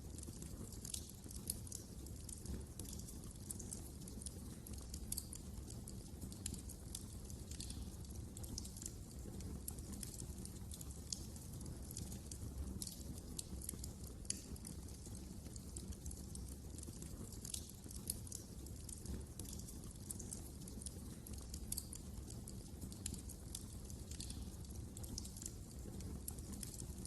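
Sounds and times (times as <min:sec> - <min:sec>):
fire rumbling: 0:00.0 - 0:27.0
wood crackling and popping: 0:00.0 - 0:27.0.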